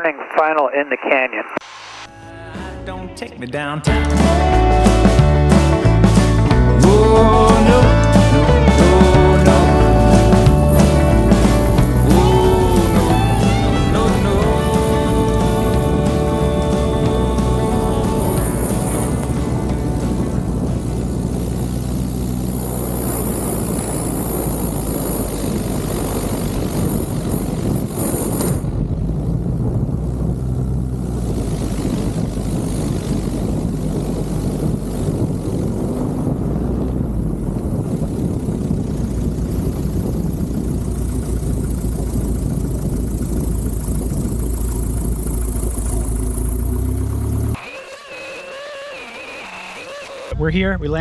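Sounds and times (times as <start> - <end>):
propeller plane engine droning: 4.5 - 50.4
wind noise: 5.0 - 46.8.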